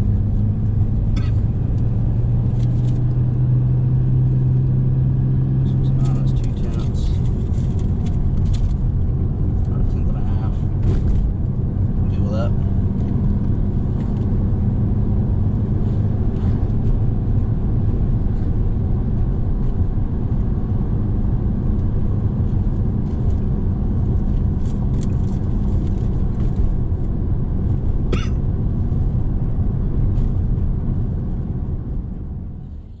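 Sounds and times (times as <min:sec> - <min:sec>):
car engine running: 0:00.0 - 0:33.0.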